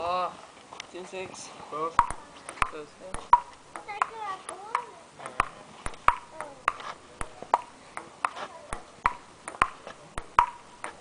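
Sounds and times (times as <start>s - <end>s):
table tennis ball clicking: 2.0s - 11.0s.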